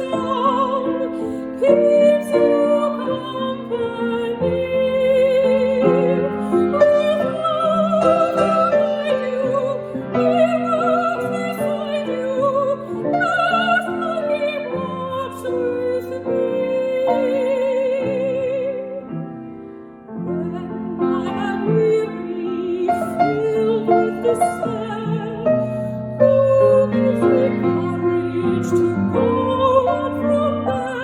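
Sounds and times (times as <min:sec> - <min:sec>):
classical vocal solo with vibrato: 0:00.0 - 0:31.0
piano accompaniment: 0:00.0 - 0:31.0.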